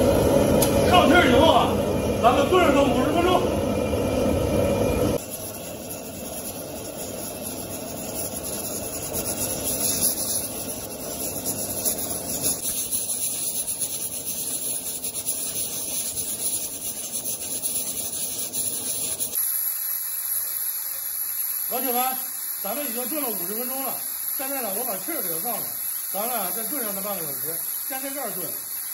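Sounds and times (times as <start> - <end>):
gas burner rushing: 0.0 - 28.9
steam hissing from pressure cooker: 5.1 - 28.9.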